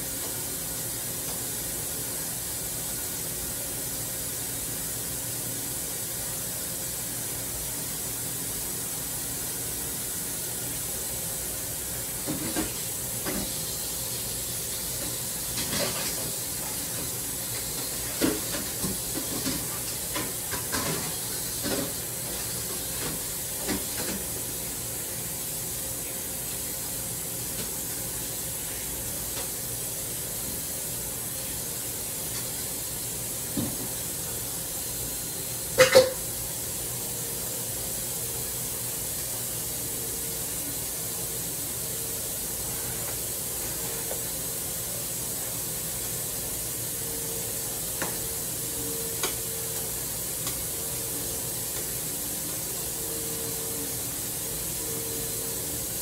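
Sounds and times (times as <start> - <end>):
stove hissing: 0.0 - 56.0.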